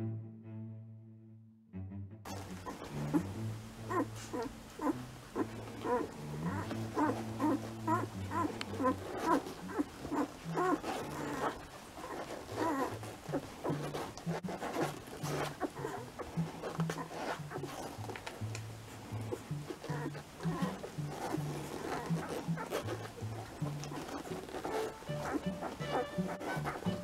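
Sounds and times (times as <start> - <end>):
puppies squeaking and whimpering: 2.3 - 27.0.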